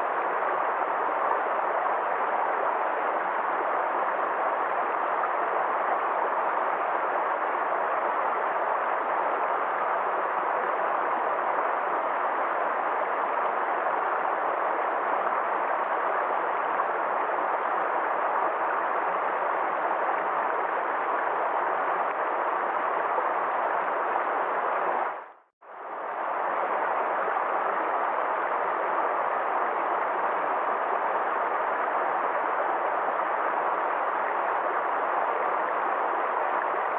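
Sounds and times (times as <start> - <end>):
stream water rushing: 0.0 - 36.9.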